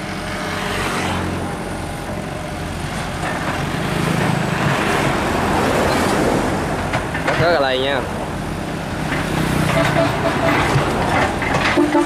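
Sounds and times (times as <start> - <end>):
excavator diesel engine working: 1.2 - 12.0.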